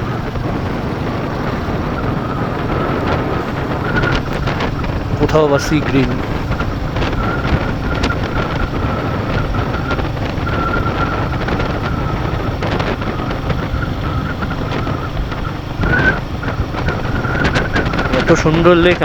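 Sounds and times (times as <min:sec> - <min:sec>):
motorcycle engine cruising: 0:00.0 - 0:19.0
wind rumble on microphone: 0:00.0 - 0:19.0.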